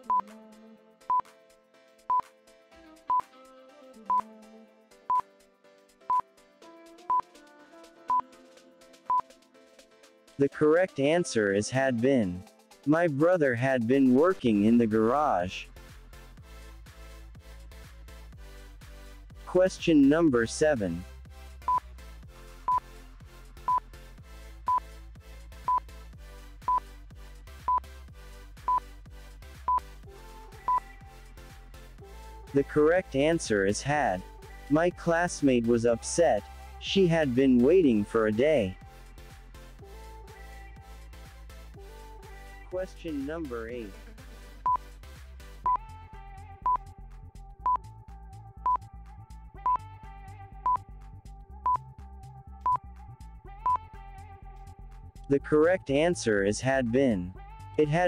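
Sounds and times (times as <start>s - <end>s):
soft background music: 0.0s - 44.9s, 45.6s - 58.0s.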